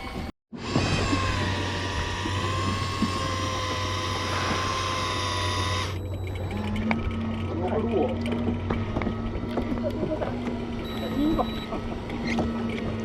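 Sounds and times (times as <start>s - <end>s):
electric reel motor whining: 0.0s - 13.0s
low steady hum: 1.4s - 13.0s.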